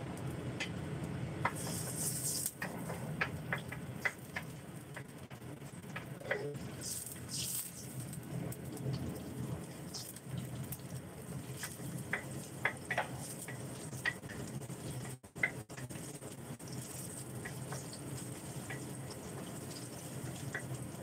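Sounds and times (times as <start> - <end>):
steady low hum: 0.0 - 21.0
garlic and onion sizzling in a wok: 1.2 - 21.0.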